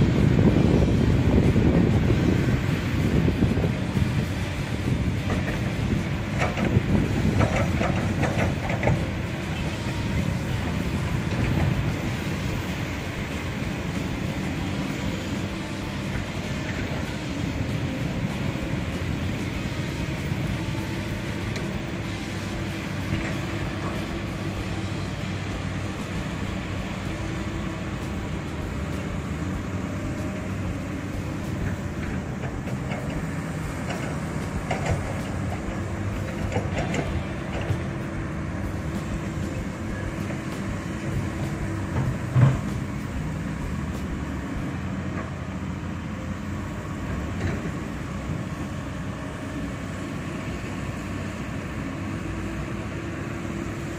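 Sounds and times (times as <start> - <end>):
excavator diesel engines: 0.0 - 53.9.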